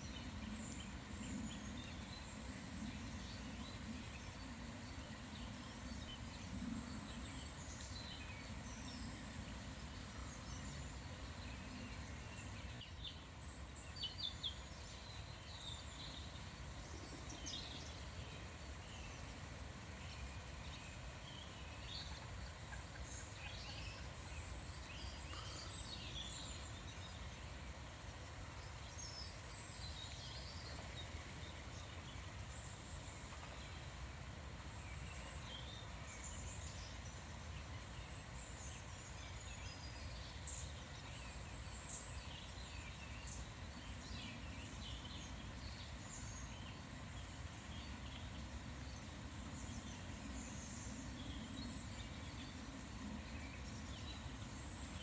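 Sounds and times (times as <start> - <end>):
low background hiss: 0.0 - 55.0.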